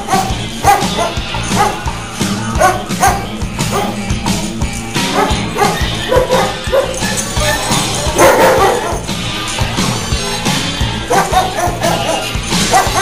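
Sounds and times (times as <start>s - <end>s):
dogs barking: 0.0s - 13.0s
music: 0.0s - 13.0s.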